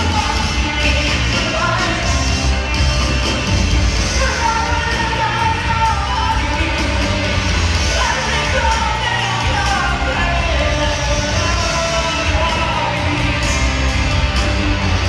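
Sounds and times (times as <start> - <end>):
high singing voice: 0.0 - 3.2, 3.9 - 13.8
live rock band playing: 0.0 - 15.0.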